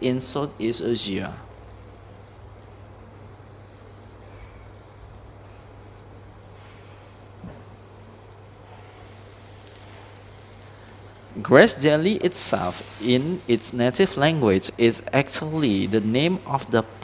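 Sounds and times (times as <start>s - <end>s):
food sizzling in a frying pan: 0.0s - 17.0s
low steady hum: 0.0s - 17.0s.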